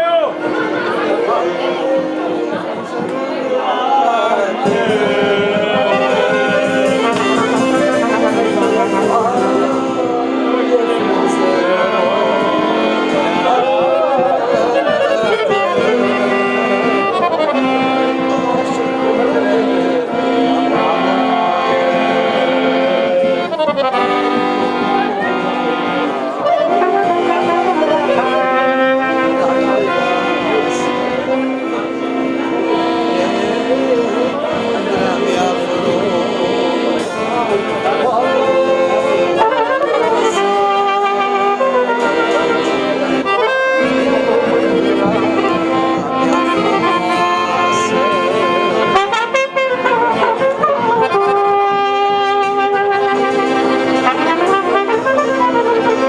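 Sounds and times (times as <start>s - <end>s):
accordion: 0.0s - 56.0s
trumpet and brass melody: 0.0s - 56.0s.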